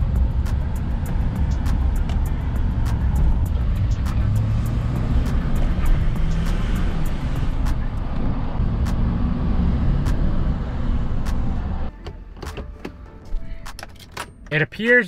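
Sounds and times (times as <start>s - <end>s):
diesel engine low rumble: 0.0s - 14.6s.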